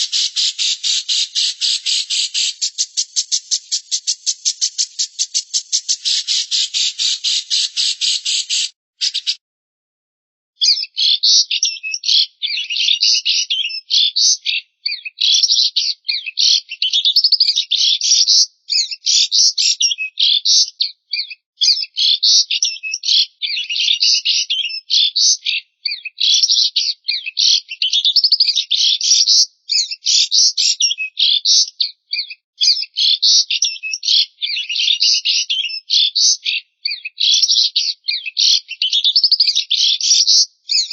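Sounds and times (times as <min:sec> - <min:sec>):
songbird chattering song: 0:00.0 - 0:09.4, 0:10.6 - 0:40.9.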